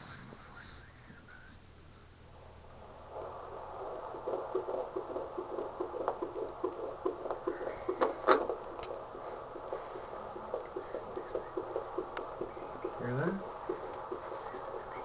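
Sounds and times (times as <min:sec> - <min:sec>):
fetal heartbeat on doppler monitor: 0:02.4 - 0:15.0
scratchy crackles: 0:02.8 - 0:15.0.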